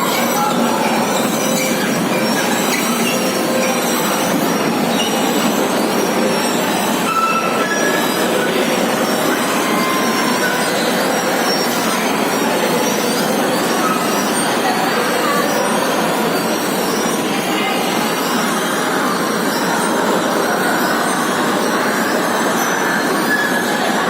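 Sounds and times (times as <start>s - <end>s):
wheel squeals: 0.0s - 24.0s.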